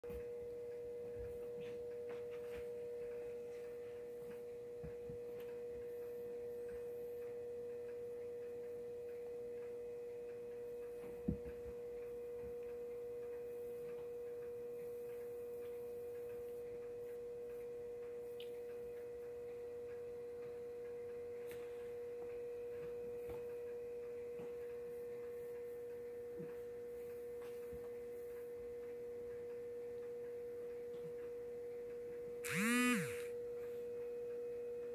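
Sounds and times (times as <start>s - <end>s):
steady hum: 0.1s - 34.9s.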